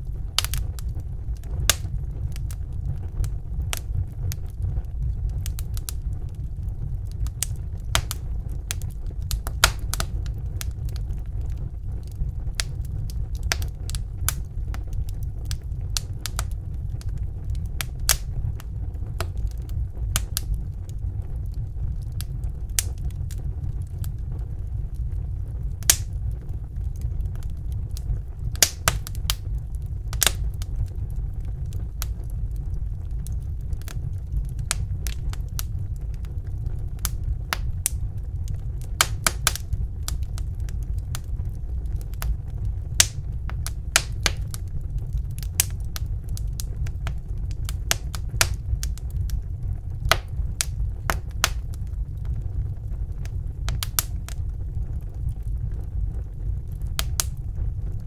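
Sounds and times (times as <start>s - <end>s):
low rumble: 0.0s - 58.0s
wood fire crackling: 0.0s - 58.0s.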